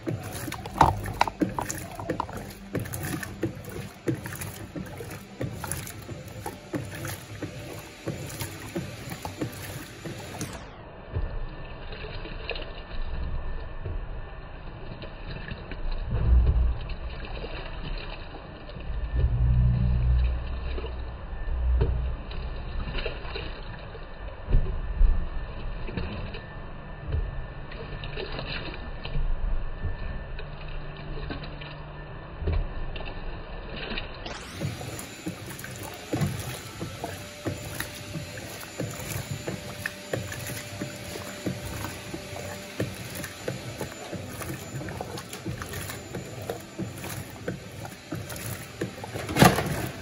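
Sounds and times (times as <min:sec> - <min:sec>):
faint steady hum: 0:00.0 - 0:50.0
washing machine agitating: 0:00.0 - 0:50.0
water sloshing: 0:00.0 - 0:50.0.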